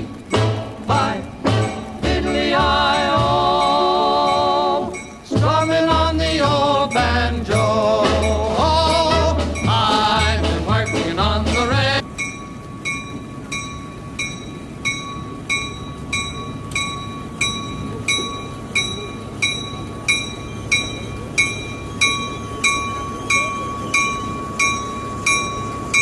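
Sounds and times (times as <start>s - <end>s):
crossing bell ringing: 0.0s - 26.0s
train rumble: 0.0s - 26.0s.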